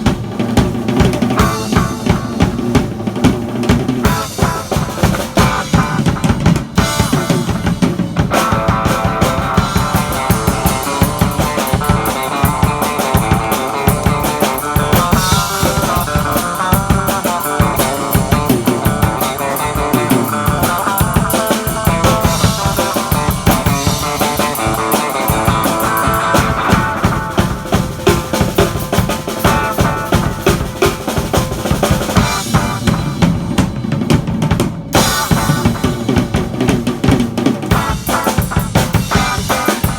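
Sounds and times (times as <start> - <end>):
drum kit playing: 0.0 - 39.9
electric guitar: 0.0 - 39.9.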